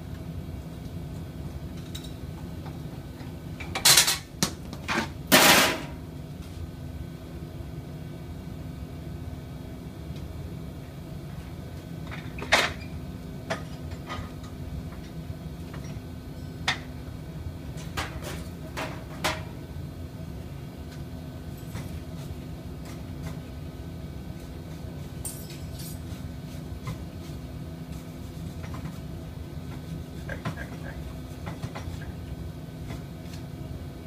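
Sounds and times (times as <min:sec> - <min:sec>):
low machinery hum: 0:00.0 - 0:34.0.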